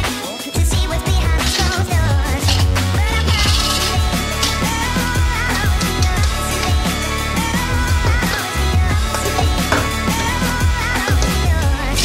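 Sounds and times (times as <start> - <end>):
electronic music: 0.7 - 12.0.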